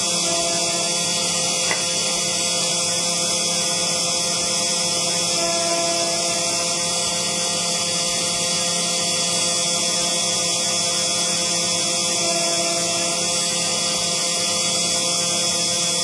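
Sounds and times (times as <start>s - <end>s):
held motor tones: 0.0s - 16.0s.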